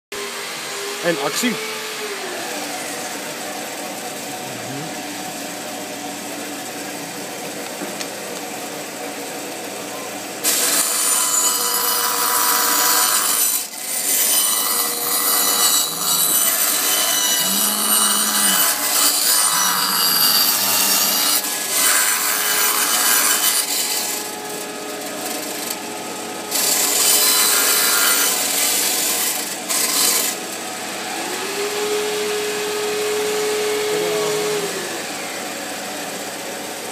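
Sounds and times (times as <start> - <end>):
band saw cutting wood: 0.2 - 8.3, 10.4 - 36.9
band saw running idle: 0.2 - 36.9.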